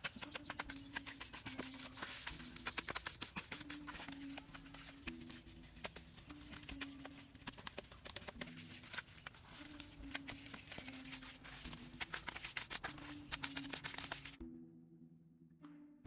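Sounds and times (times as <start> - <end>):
rapid tapping and scraping: 0.0 - 14.4
music with low held notes: 0.0 - 16.0.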